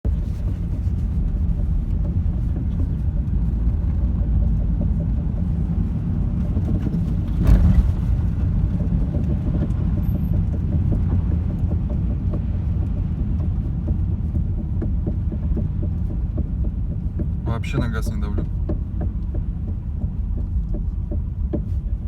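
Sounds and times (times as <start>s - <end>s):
road and tyre rumble: 0.0s - 22.0s.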